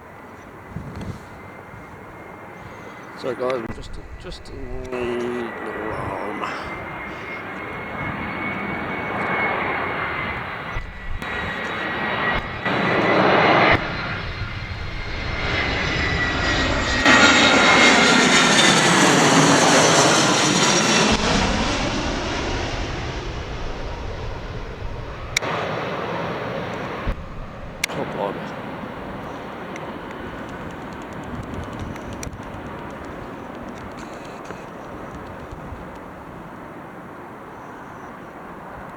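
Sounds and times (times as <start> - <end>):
airliner engines passing: 0.0 - 38.9.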